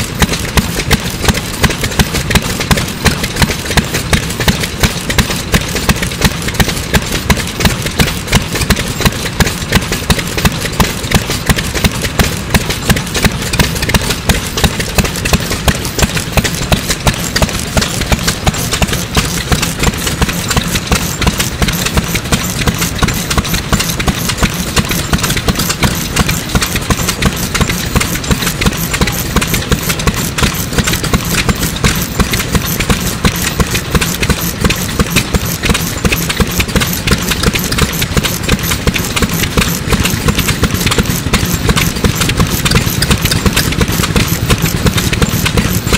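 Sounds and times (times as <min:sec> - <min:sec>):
stationary engine running: 0:00.0 - 0:45.9.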